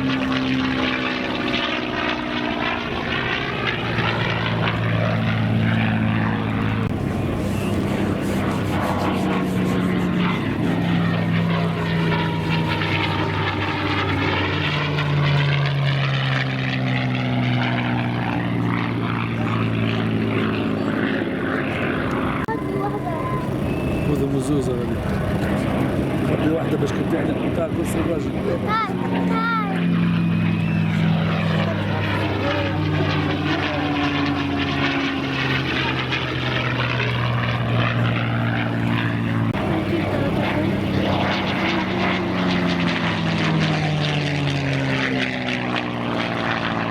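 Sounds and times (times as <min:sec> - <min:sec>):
propeller plane engine flying by: 0:00.0 - 0:46.9.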